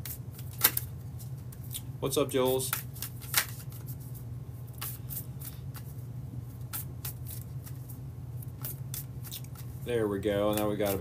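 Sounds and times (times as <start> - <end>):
cards being shuffled: 0.0 - 1.8, 2.4 - 9.8, 10.4 - 11.0
steady low hum: 0.0 - 11.0.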